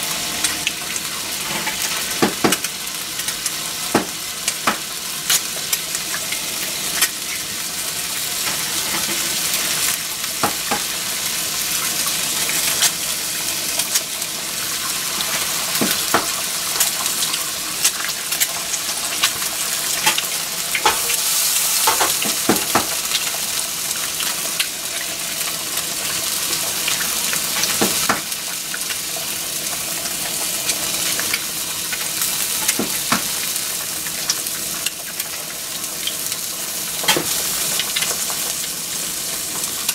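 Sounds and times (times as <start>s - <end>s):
eggs sizzling in oil: 0.0s - 39.9s
oil popping and crackling: 0.0s - 39.9s.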